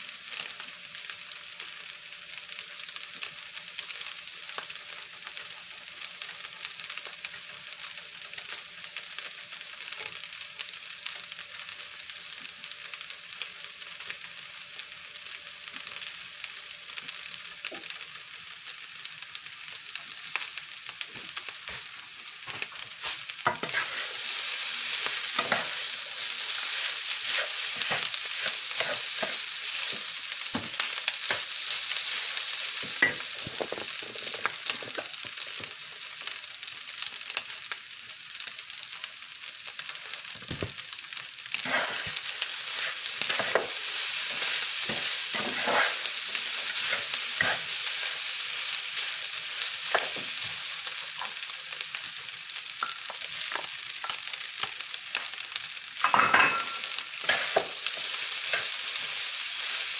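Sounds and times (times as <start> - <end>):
rice sizzling in a pan: 0.0 - 59.9.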